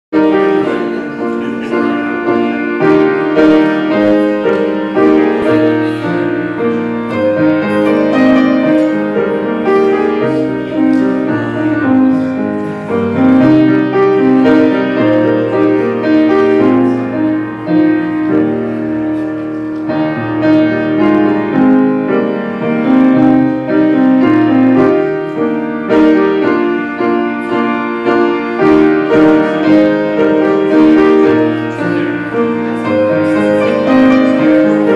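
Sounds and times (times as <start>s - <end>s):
grand piano slow piece: 0.1s - 34.9s.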